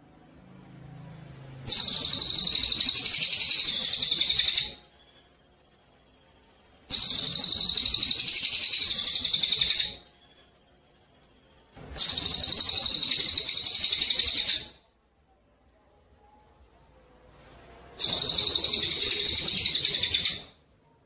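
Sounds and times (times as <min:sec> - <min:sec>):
recorded songbird trills: 0:00.0 - 0:21.0.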